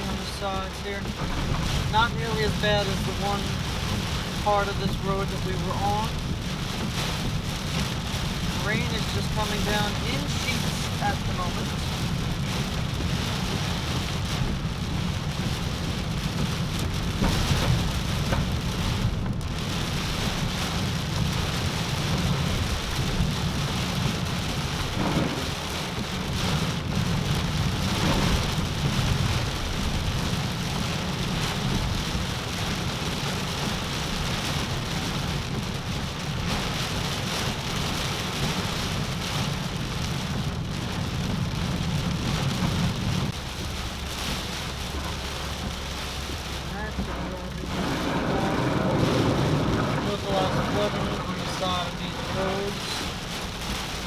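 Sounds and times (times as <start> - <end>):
heavy rain on a car roof: 0.0 - 54.0
low road rumble: 0.0 - 54.0.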